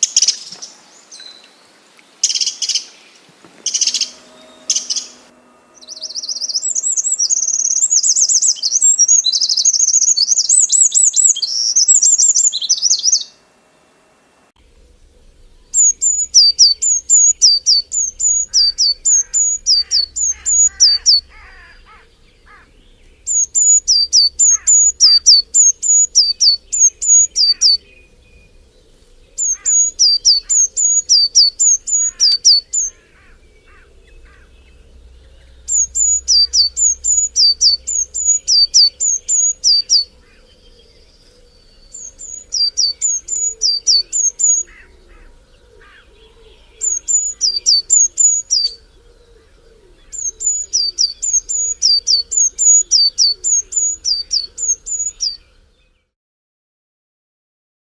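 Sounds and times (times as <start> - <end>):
faint bird calls: 0.0 - 13.4, 14.6 - 56.0
songbird singing high notes: 2.2 - 13.4, 15.2 - 45.3, 45.9 - 48.9, 50.0 - 55.6.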